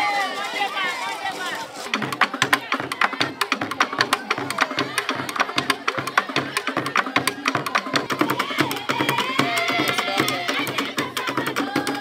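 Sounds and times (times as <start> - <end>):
rapid sharp percussion strokes: 1.6 - 12.0.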